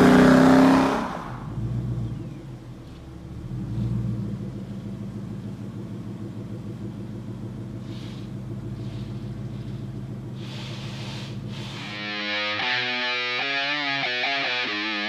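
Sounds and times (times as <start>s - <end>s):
car engine idling: 1.4s - 15.0s.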